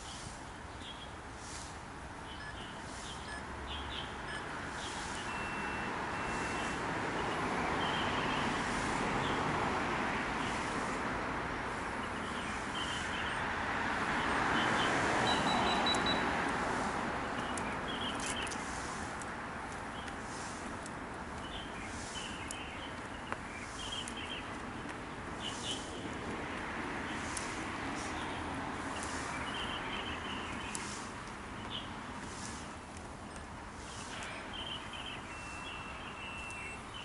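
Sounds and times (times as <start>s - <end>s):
road traffic passing: 0.0s - 37.0s
birds chirping: 2.2s - 9.5s, 11.7s - 26.2s, 26.8s - 37.0s.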